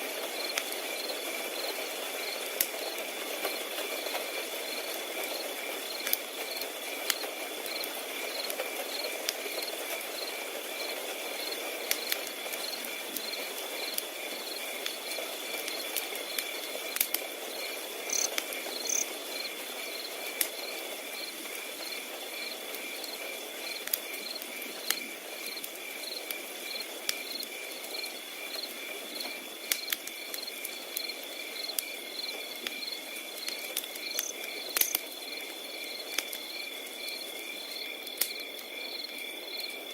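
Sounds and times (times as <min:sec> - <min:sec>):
crickets chirping: 0:00.0 - 0:39.9
wood fire crackling: 0:00.1 - 0:39.9.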